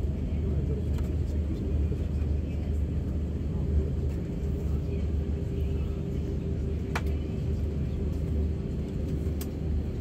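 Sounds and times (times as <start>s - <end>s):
aircraft engines idling: 0.0s - 10.0s
steady cabin hum: 0.0s - 10.0s.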